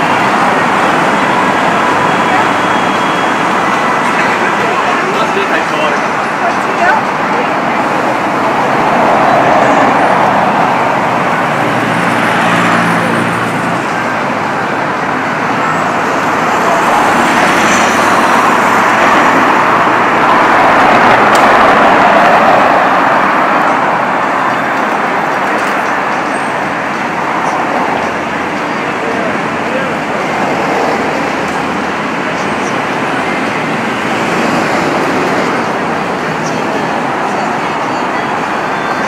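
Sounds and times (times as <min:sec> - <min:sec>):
passing vehicles: 0:00.0 - 0:39.0.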